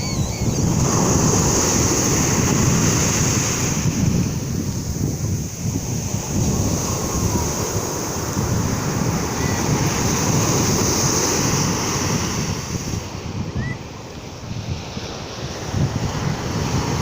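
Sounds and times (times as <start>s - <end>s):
sea waves washing onto shore: 0.0s - 17.0s.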